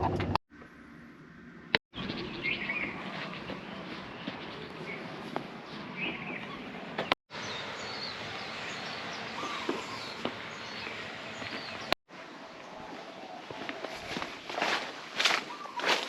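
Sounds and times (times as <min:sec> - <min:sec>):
birds chirping: 0:01.9 - 0:16.0.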